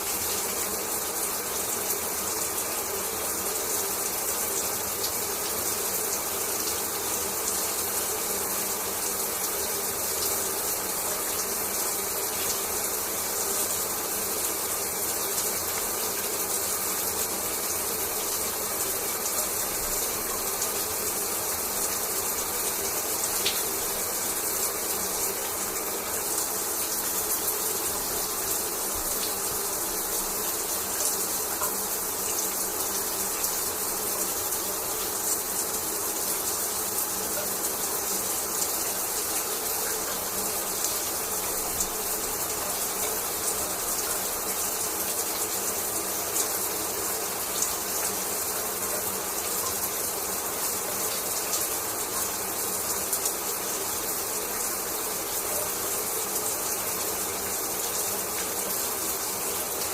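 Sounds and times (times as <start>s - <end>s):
shower water running: 0.0s - 59.9s.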